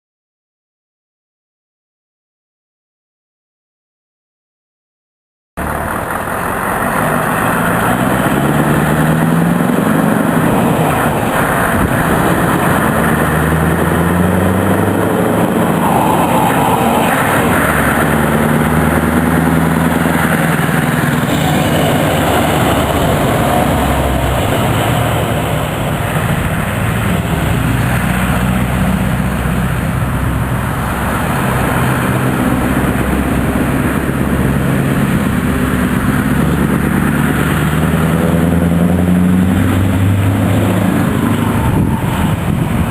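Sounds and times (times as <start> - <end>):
diesel engine revving: 5.6 - 42.9.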